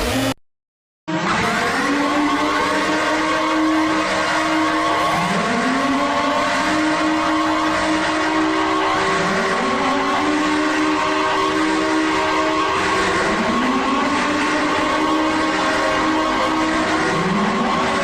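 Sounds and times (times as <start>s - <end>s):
siren-like rising sweep: 1.1s - 18.0s
steady electronic alarm tones: 1.1s - 18.0s.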